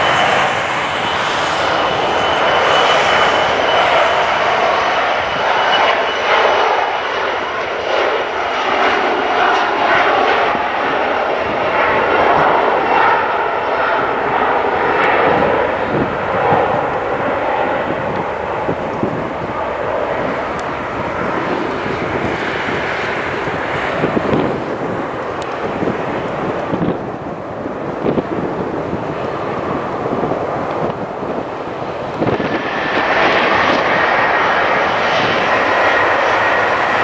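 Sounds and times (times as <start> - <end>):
aircraft engines roaring: 0.0 - 37.0.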